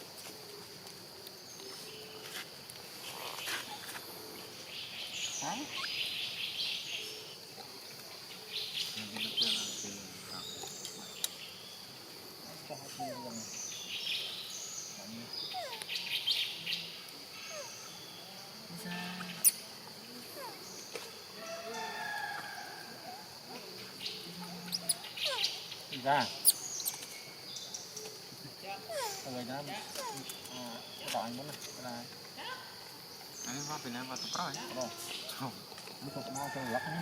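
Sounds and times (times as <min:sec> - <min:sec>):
birds chirping: 0:03.1 - 0:22.1, 0:23.9 - 0:36.6.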